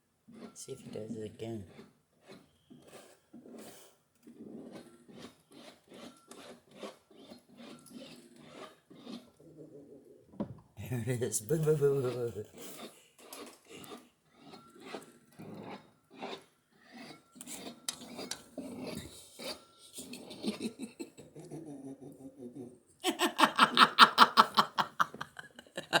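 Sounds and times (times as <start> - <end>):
paint scraper rasping: 0.3 - 9.8, 11.2 - 21.4, 23.2 - 26.0.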